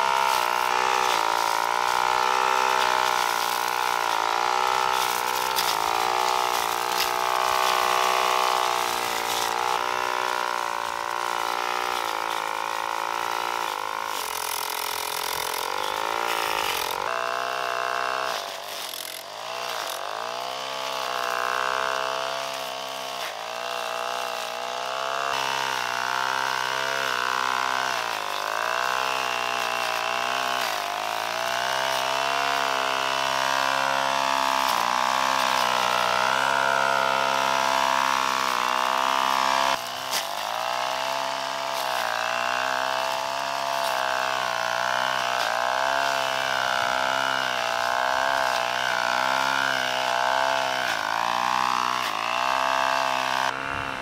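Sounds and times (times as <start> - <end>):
small engine running hard: 0.0 - 54.0.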